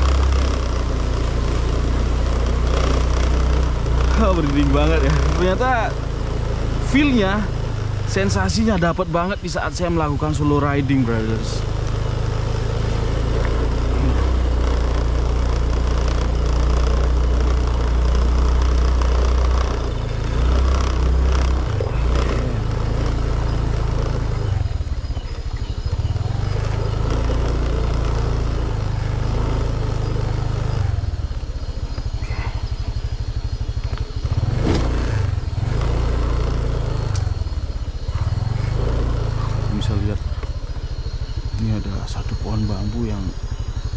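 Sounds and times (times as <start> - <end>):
motorcycle rattles and knocks: 0.0 - 41.6
motorcycle engine running: 0.0 - 43.9.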